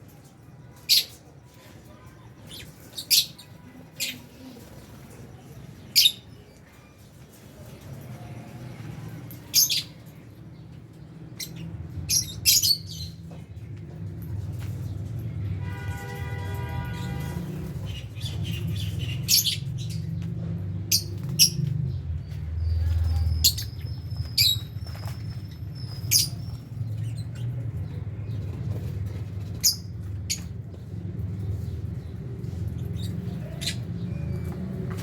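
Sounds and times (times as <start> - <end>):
birds chirping and squawking: 0.2 - 35.0.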